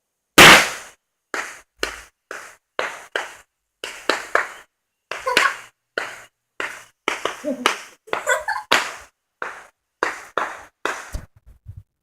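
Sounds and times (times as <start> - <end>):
firecrackers cracking: 0.4 - 11.2.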